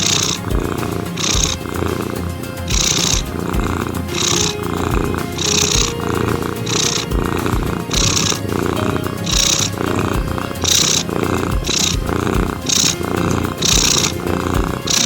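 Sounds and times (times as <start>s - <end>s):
background music: 0.0s - 15.0s
cat purring: 0.0s - 15.0s.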